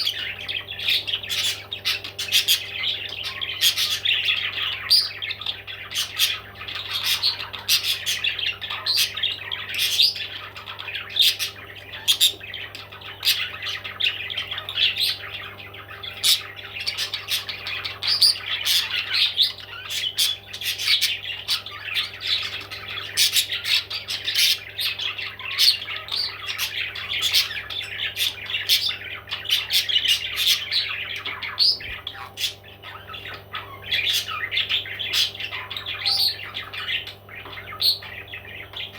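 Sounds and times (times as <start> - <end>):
parrots squawking and chirping: 0.0 - 38.9.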